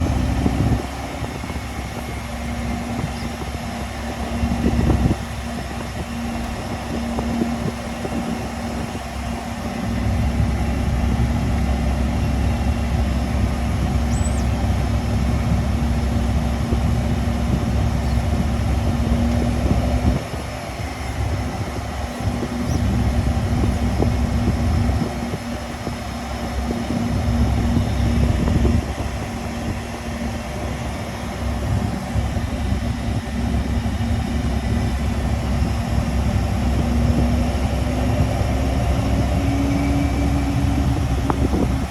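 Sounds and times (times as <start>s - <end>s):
jet engines droning: 0.0s - 41.9s.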